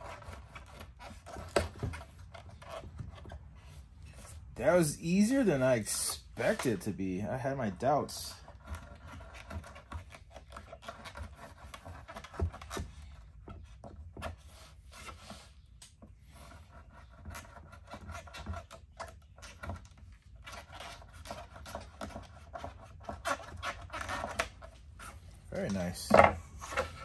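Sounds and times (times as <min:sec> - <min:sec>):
folding knife scraping material: 0:00.0 - 0:06.8, 0:08.4 - 0:15.7, 0:16.3 - 0:25.9.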